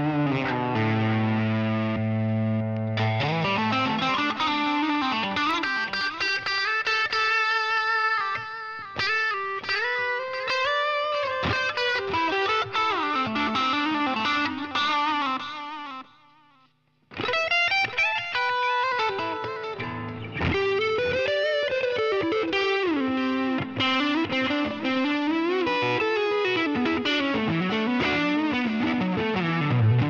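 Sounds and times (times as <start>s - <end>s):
electric guitar lead lines: 0.0s - 30.0s.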